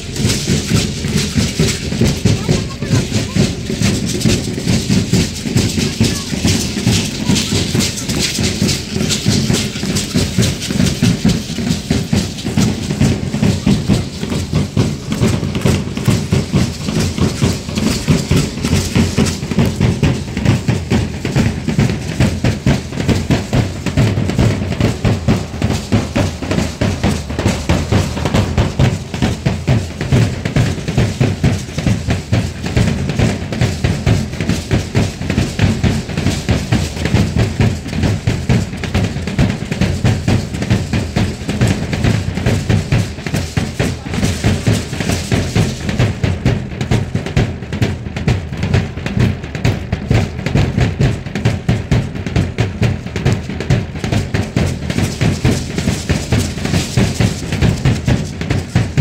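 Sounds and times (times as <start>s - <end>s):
drums beating fast rhythm: 0.0s - 59.0s.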